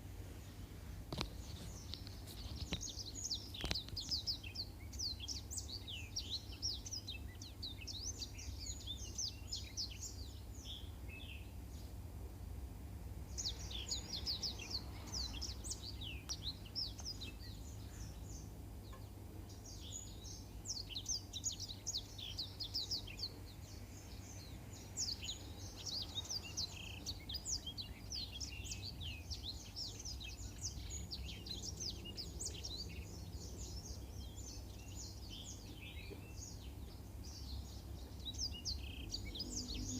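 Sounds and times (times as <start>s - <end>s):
canary singing: 1.2s - 11.5s, 13.3s - 39.9s.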